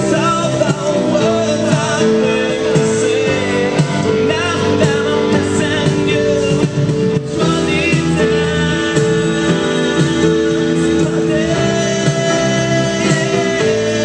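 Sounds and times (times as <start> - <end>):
electric guitar: 0.0 - 14.0
keyboard: 0.0 - 14.0
person singing: 0.0 - 14.0.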